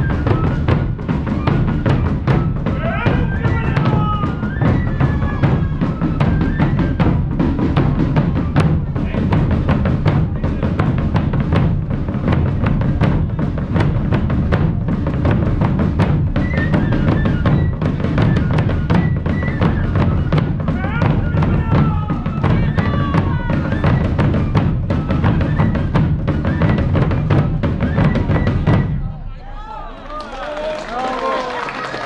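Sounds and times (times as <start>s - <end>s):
loud steady drumming: 0.0s - 29.5s.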